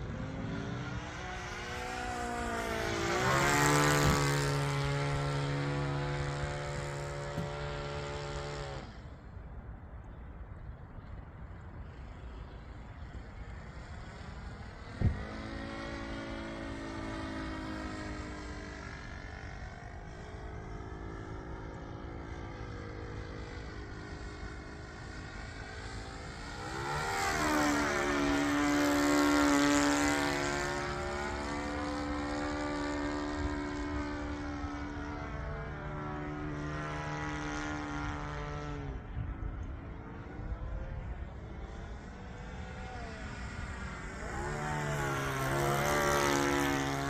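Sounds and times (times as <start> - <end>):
model plane engine droning: 0.0 - 47.0.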